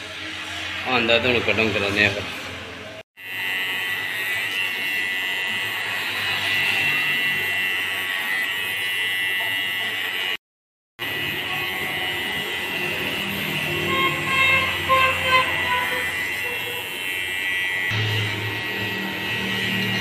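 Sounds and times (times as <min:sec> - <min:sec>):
electric hair clipper buzzing: 0:03.2 - 0:10.4, 0:11.0 - 0:20.0.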